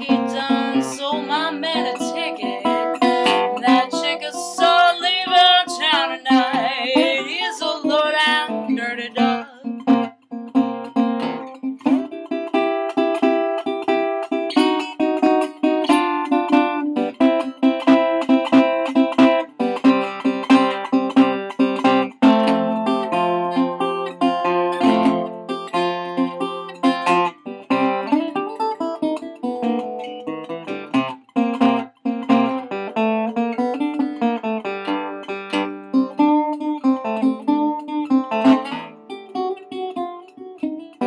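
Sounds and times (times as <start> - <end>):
acoustic guitar blues playing: 0.0 - 41.0.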